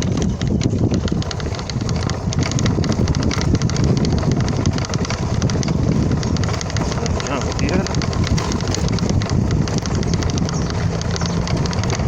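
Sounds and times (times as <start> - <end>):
rapid clicking and rattling: 0.0 - 12.0.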